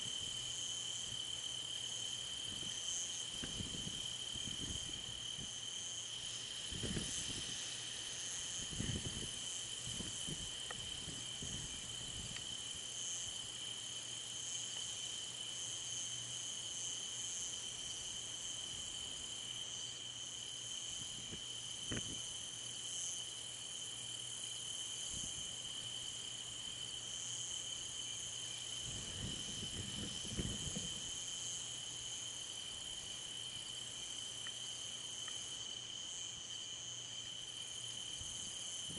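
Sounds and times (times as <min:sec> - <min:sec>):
crickets and insects chirring: 0:00.0 - 0:38.9
pulsing high insect layer: 0:00.0 - 0:38.9.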